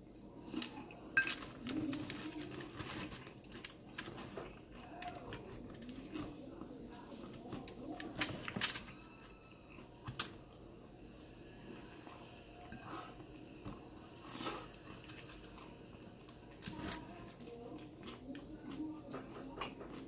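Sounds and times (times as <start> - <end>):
person chewing food: 0.2 - 20.0.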